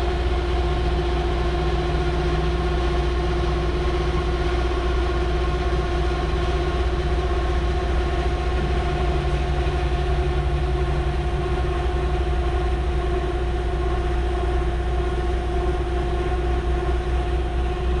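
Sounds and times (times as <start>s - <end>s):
heavy machinery droning: 0.0s - 18.0s.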